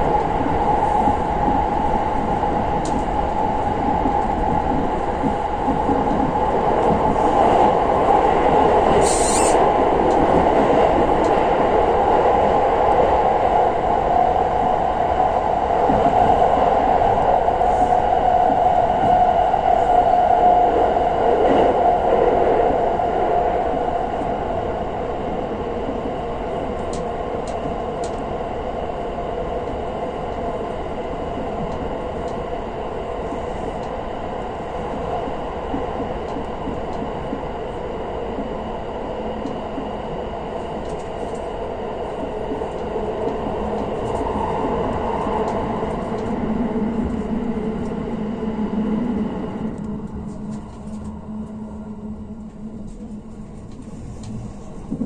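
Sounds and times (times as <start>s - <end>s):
train running noise: 0.0s - 55.0s.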